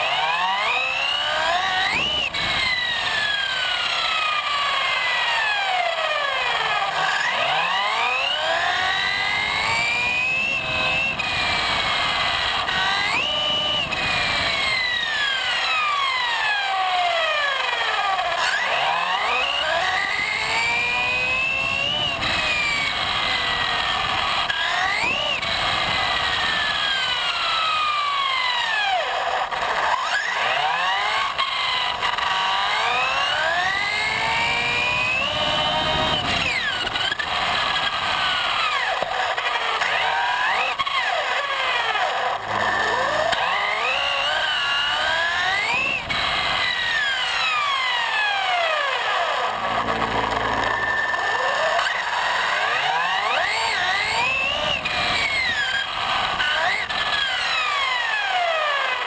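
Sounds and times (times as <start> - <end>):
electric motor whining: 0.0 - 59.0.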